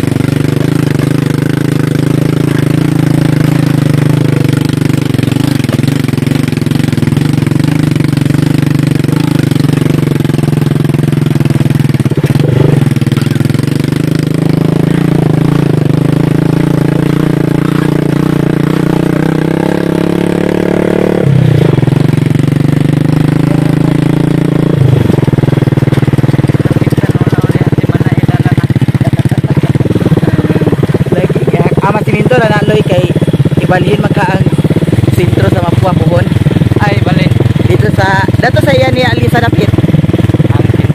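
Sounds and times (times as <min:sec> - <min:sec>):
small motorcycle engine running: 0:00.0 - 0:40.9.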